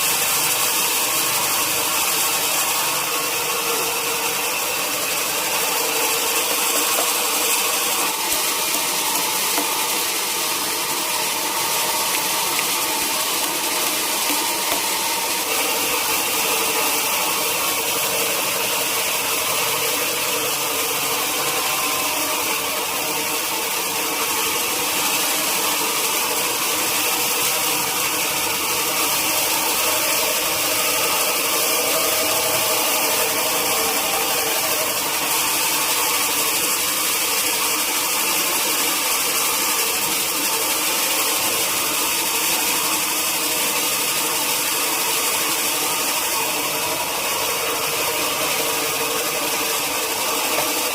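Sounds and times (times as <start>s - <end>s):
sawmill machinery drone: 0.0s - 50.9s.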